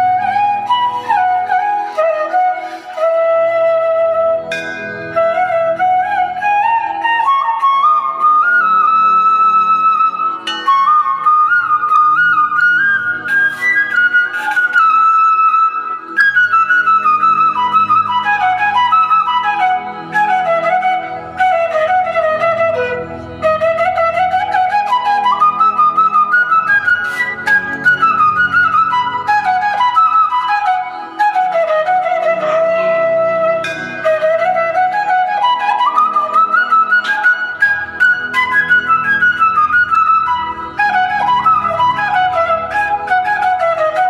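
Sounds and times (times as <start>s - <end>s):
flute melody: 0.0s - 44.0s
soft low musical backing: 0.0s - 44.0s.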